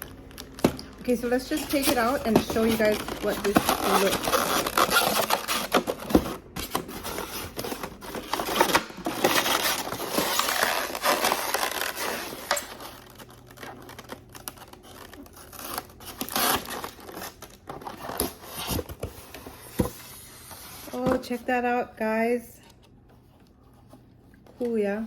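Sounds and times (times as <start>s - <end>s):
packaging crinkling and rustling: 0.0s - 21.4s.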